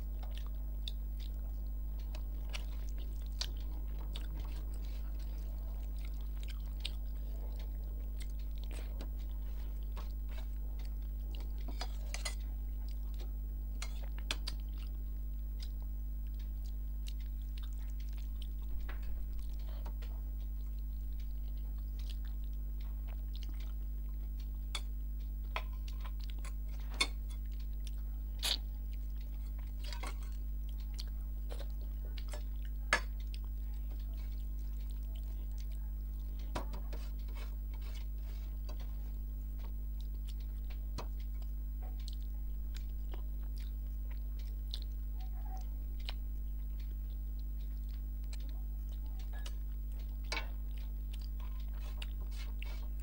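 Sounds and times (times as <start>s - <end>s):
person chewing food: 0.0s - 53.0s
steady low hum: 0.0s - 53.0s.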